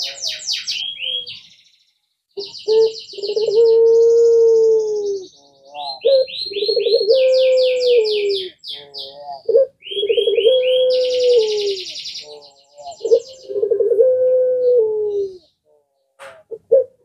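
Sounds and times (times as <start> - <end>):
dove cooing: 0.0 - 1.4, 2.4 - 17.0
bird chirps and trills: 0.0 - 16.6.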